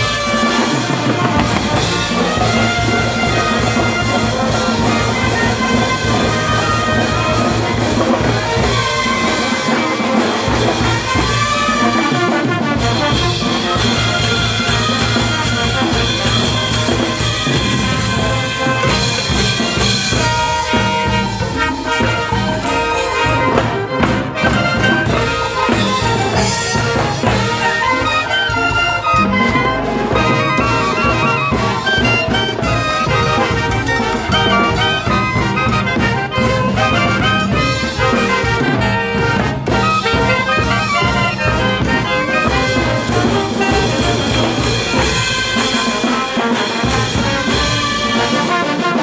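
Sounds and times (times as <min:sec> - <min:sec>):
brass band playing: 0:00.0 - 0:49.0
drum kit and bass drum beat: 0:00.0 - 0:49.0.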